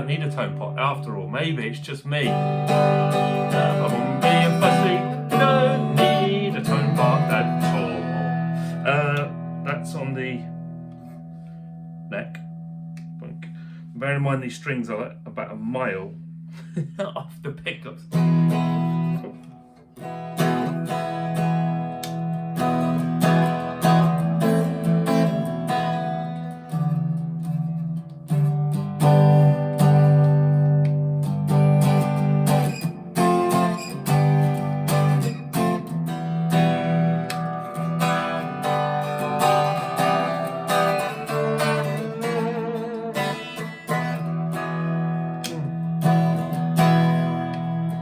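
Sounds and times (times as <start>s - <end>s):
electric guitar strummed chords: 0.0s - 16.7s, 17.6s - 48.0s.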